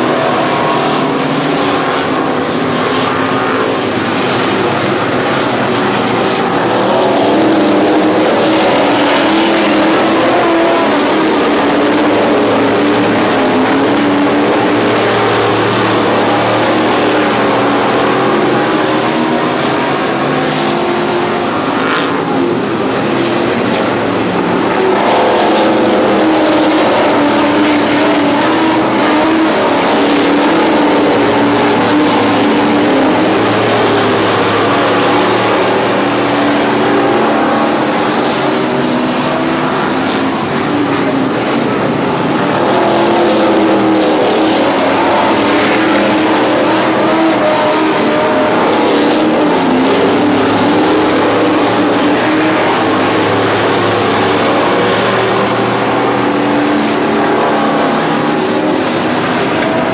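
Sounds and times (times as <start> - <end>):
race car engines roaring: 0.0 - 59.9.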